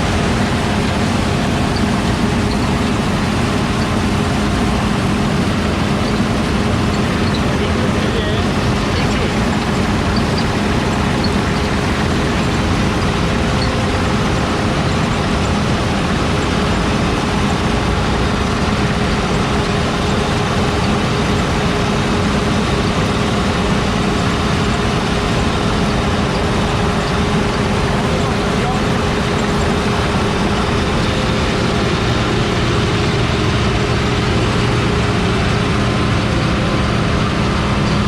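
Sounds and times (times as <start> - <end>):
heavy diesel engine droning: 0.0 - 38.0.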